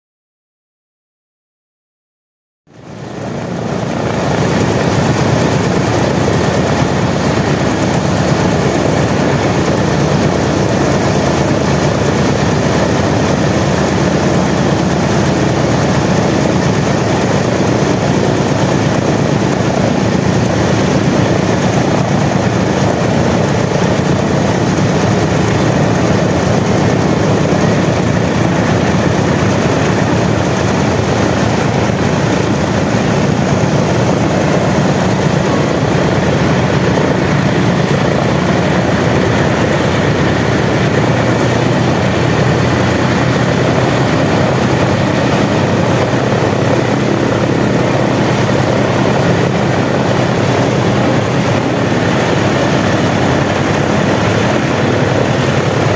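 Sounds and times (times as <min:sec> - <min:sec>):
radial aircraft engine running: 0:02.7 - 0:55.9.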